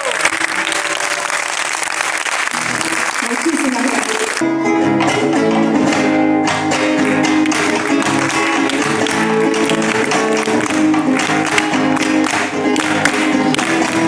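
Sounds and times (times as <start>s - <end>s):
acoustic guitar playing: 0.3s - 14.0s.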